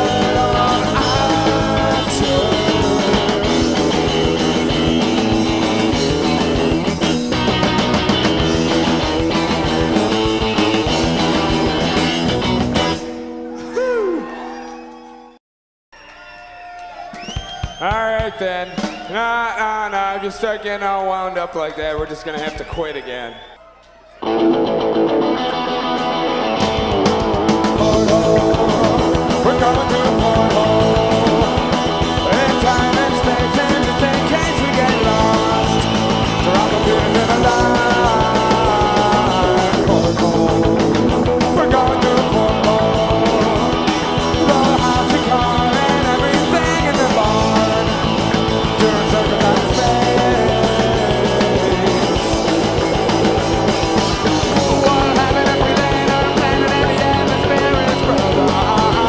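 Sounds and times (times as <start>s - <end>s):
live indie rock band: 0.0s - 14.0s, 24.2s - 59.0s.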